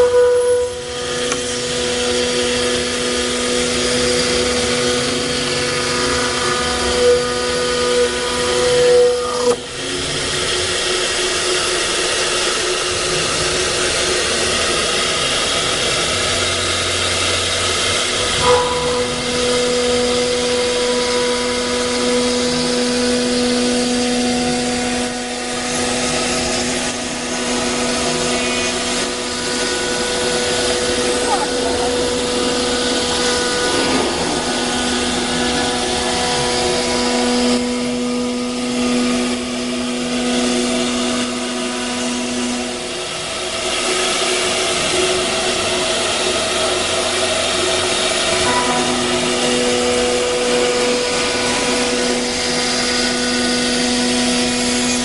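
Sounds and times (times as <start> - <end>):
router spindle whine: 0.0 - 55.0.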